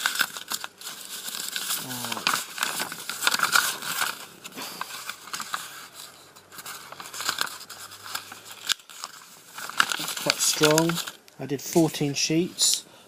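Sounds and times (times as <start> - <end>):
paper rustling and crinkling: 0.0 - 12.8.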